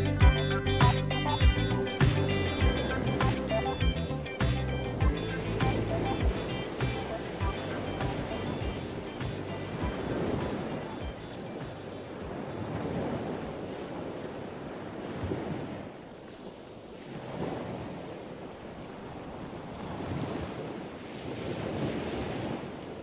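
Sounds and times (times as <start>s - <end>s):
ocean waves washing in: 1.7s - 23.0s.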